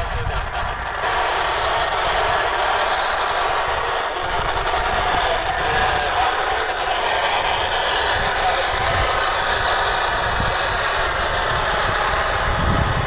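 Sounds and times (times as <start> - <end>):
steady hiss: 0.0 - 13.0
wind buffeting microphone: 0.0 - 13.0.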